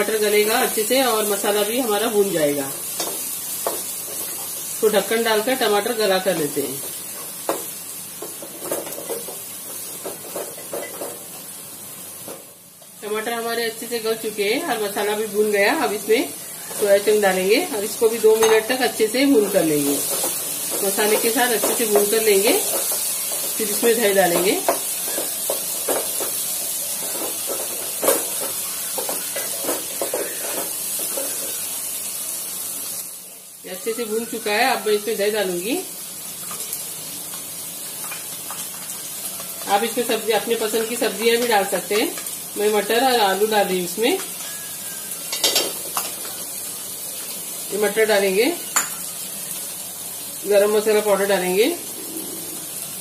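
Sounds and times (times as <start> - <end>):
food sizzling in oil: 0.0 - 53.0.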